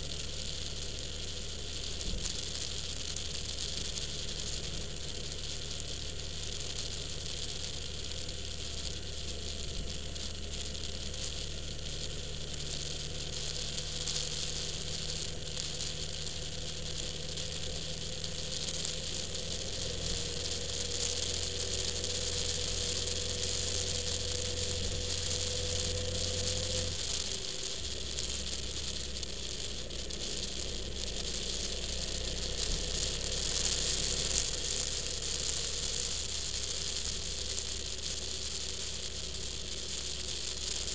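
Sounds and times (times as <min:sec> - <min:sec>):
car engine running: 0:00.0 - 0:40.9
road noise hiss: 0:00.0 - 0:40.9.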